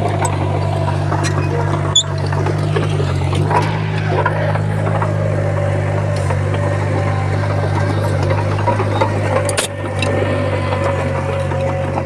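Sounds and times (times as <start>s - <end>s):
diesel earthmoving machinery running: 0.0s - 12.0s.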